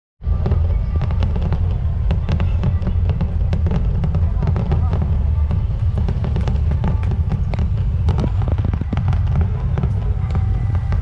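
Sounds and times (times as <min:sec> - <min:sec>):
steady low rumble: 0:00.2 - 0:11.0
fireworks cracks and pops: 0:00.3 - 0:11.0.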